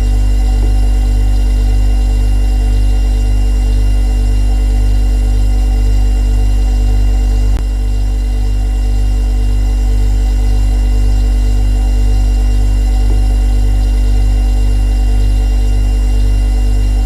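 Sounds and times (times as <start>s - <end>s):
refrigerator humming: 0.0s - 17.0s.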